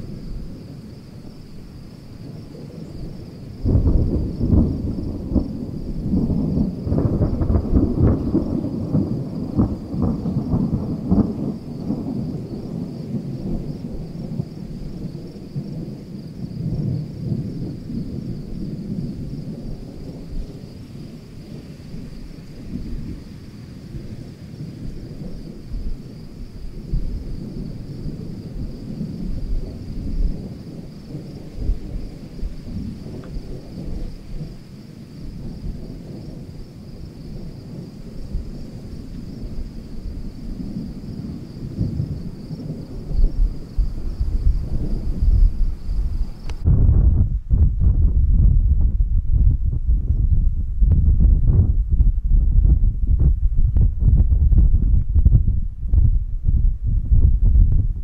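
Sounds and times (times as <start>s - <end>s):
thunder rumbling: 0.0s - 58.0s.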